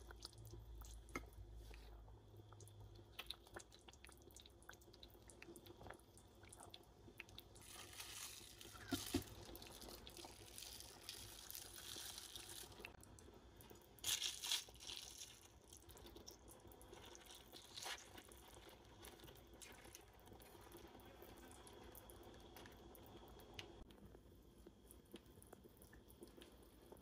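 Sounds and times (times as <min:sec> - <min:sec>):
broth simmering with fizzing bubbles: 0:00.0 - 0:27.0.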